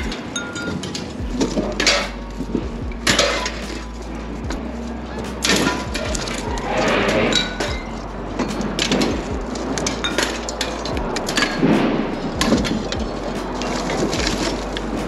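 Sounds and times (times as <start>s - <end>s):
scrap iron clanking: 0.0s - 15.0s.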